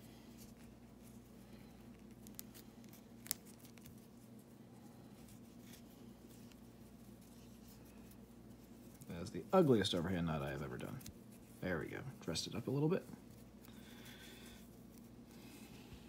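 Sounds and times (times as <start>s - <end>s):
cord rustling: 0.0s - 16.0s
low steady hum: 0.0s - 16.0s.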